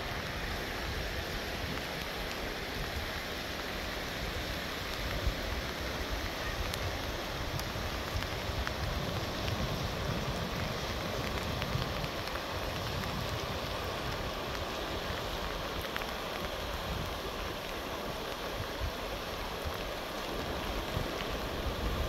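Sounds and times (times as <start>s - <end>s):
river rushing: 0.0s - 22.0s
wind rumbling on microphone: 0.0s - 22.0s.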